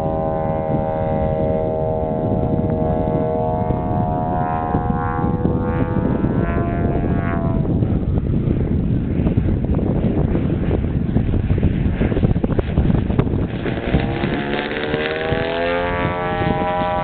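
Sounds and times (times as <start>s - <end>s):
model plane engine droning: 0.0s - 17.0s
wind noise on microphone: 0.0s - 17.0s.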